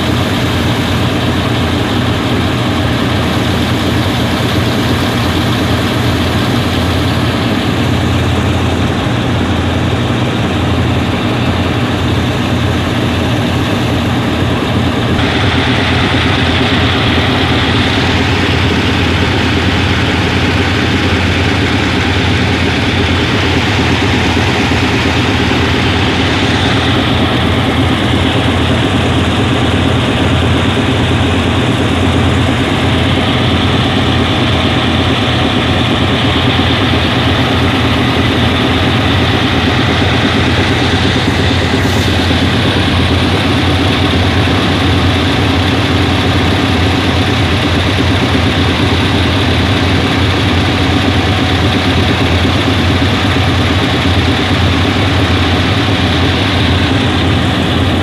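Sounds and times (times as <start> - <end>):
locomotive engine idling: 0.0 - 58.0.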